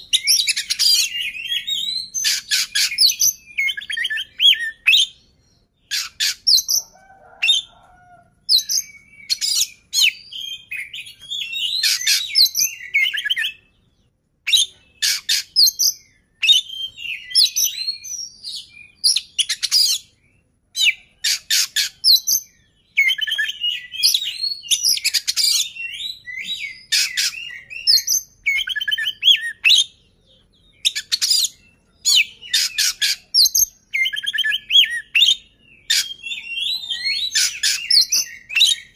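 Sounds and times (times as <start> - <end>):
bird singing whistled phrases: 0.0 - 6.9, 8.5 - 13.8, 14.5 - 20.1, 20.8 - 30.0, 30.6 - 38.9.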